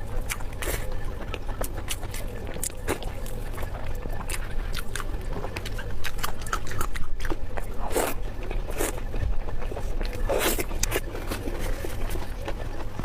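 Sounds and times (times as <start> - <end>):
person chewing and smacking: 0.0 - 13.0.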